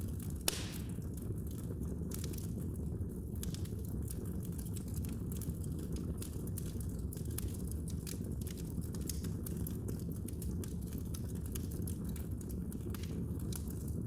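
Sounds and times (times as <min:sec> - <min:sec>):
low rumble of flames: 0:00.0 - 0:14.0
wood fire crackling and popping: 0:00.0 - 0:14.0.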